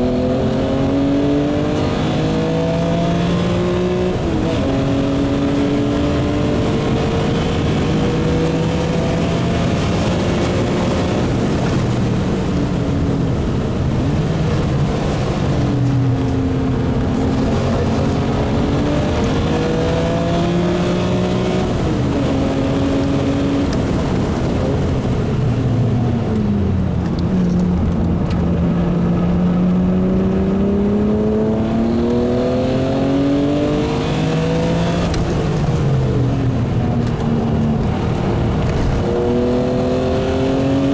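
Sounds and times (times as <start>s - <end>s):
racing car engine accelerating: 0.0s - 40.9s.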